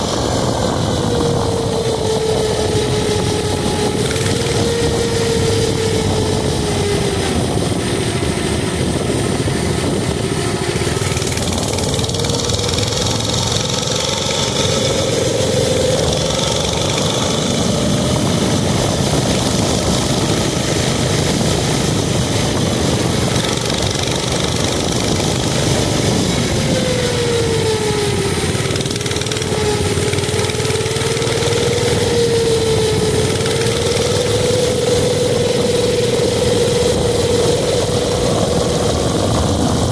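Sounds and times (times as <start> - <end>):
small engine revving: 0.0 - 39.9
wind noise on microphone: 0.0 - 39.9.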